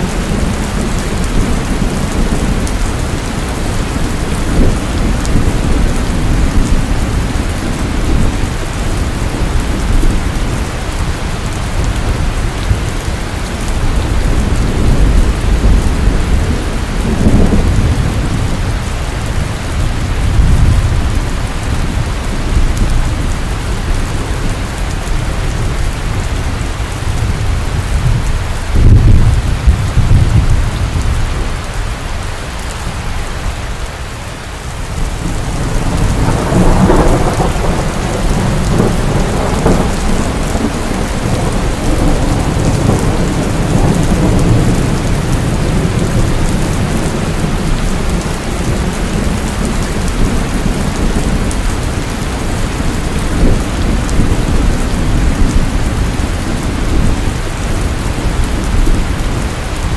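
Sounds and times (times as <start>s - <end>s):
rolling thunder: 0.0s - 31.7s, 34.8s - 59.9s
heavy rain falling: 0.0s - 59.9s.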